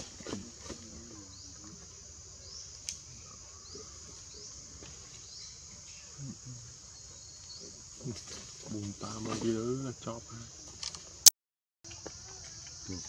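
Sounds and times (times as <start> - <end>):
insect chorus drone: 0.0 - 11.2, 11.9 - 13.0.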